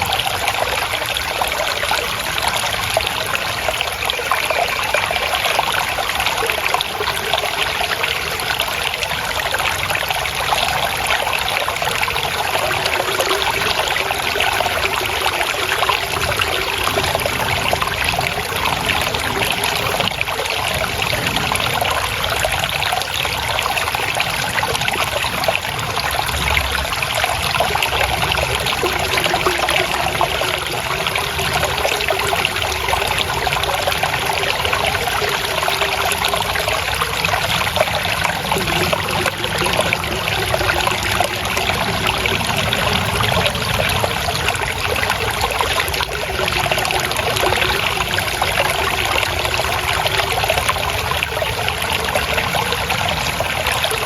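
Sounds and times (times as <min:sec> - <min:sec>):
water trickling: 0:00.0 - 0:54.0.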